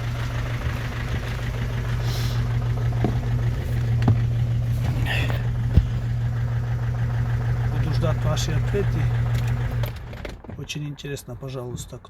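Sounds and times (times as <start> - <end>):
engine knocking: 0.0 - 10.5
diesel engine idling: 0.0 - 12.0.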